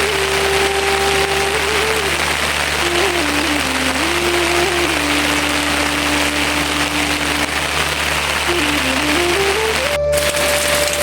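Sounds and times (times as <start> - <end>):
soft low melody: 0.0 - 11.0
steady rain falling: 0.0 - 11.0.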